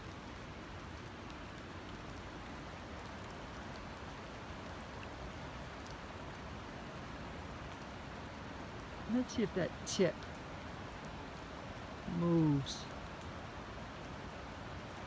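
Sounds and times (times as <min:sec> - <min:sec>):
rain falling on water: 0:00.0 - 0:15.0.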